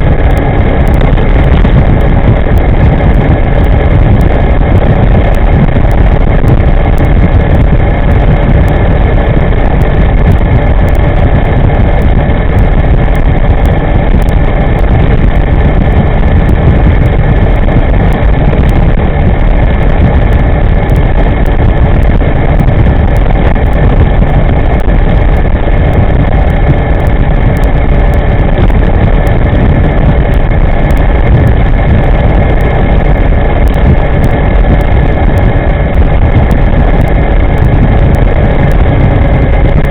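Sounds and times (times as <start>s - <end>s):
thin steady whine: 0.0s - 39.9s
wind rumble on microphone: 0.0s - 39.9s.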